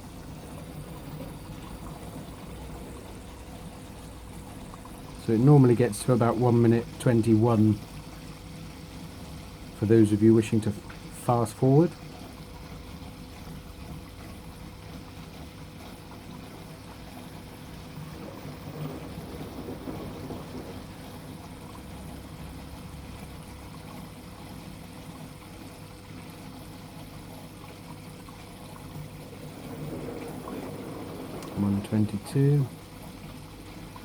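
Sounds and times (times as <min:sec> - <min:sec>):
washing machine low hum: 0:00.0 - 0:34.0
washing machine water sloshing: 0:00.0 - 0:34.0.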